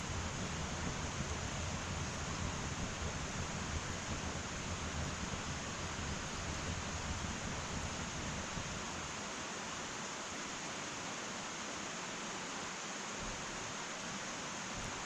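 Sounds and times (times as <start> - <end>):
wood fire hissing: 0.0 - 15.0.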